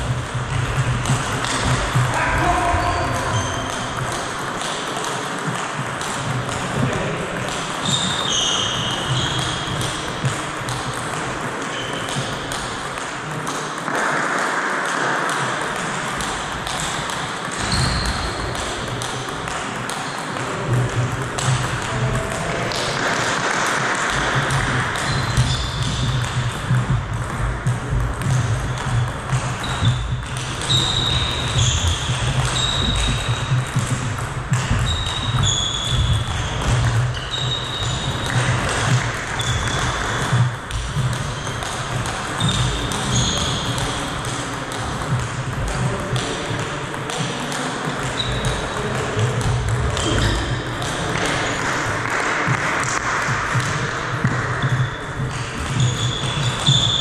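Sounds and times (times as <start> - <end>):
table tennis ball pinging: 0.0 - 57.0.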